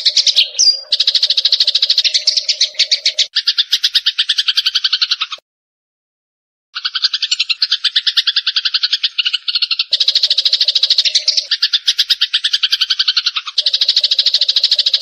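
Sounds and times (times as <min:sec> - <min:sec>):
sparrows chattering: 0:00.0 - 0:05.4, 0:06.8 - 0:15.0.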